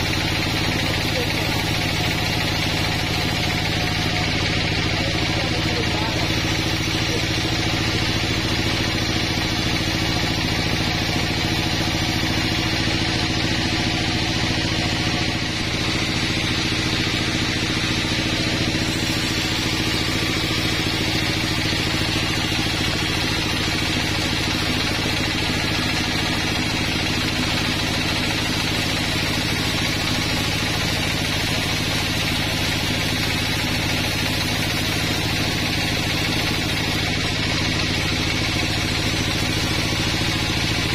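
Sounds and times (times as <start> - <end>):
band saw motor hum: 0.0 - 40.9
saw blade hissing through wood: 0.0 - 40.9.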